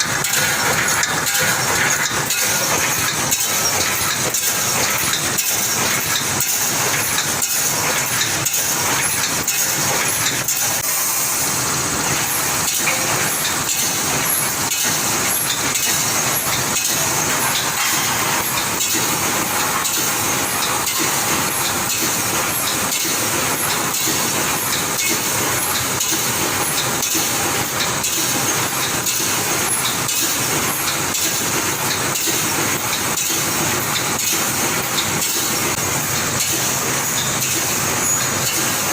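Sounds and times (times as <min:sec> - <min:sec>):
welding machine clattering: 0:00.0 - 0:38.9.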